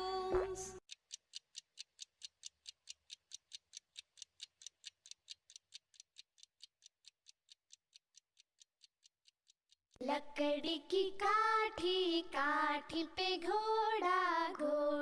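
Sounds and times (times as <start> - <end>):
clock-like ticking: 0.8 - 13.7.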